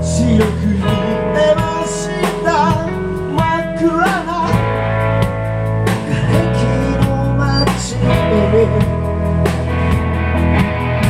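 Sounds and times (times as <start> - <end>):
bass guitar: 0.0 - 11.0
electric guitar: 0.0 - 11.0
steady drum beat: 0.0 - 11.0.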